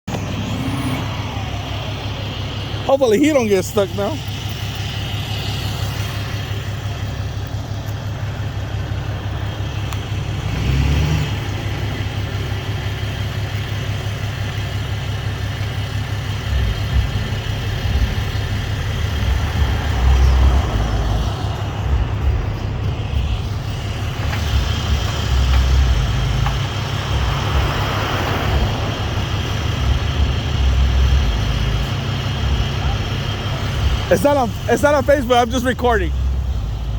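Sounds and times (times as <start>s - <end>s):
truck engine revving: 0.0s - 36.9s.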